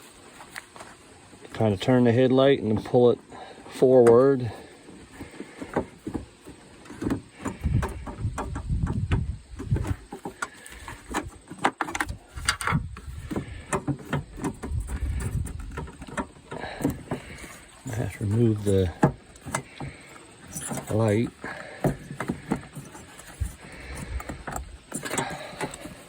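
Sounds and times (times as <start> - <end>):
low rumbling handling noise: 0.0 - 26.0.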